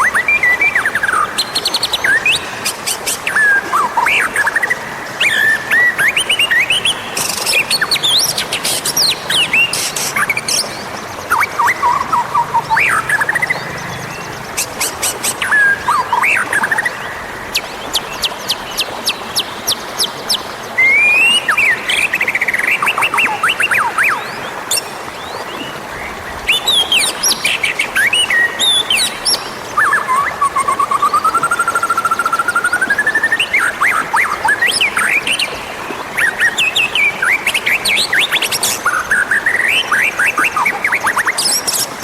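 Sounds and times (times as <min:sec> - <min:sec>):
bird singing varied song: 0:00.0 - 0:42.0.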